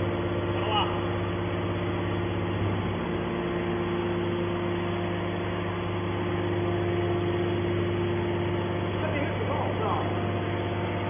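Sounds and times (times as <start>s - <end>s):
hydraulic power unit humming: 0.0s - 11.0s.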